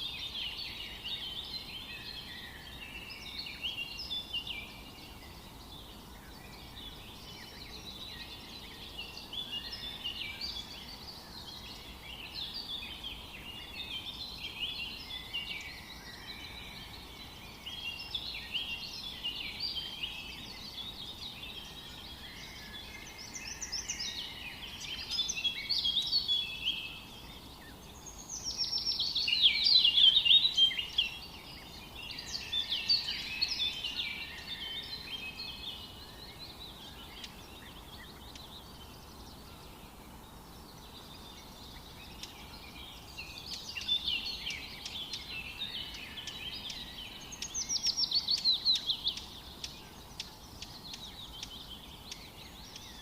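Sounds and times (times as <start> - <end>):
faint steady hiss: 0.0 - 53.0
songbirds chirping: 0.0 - 53.0.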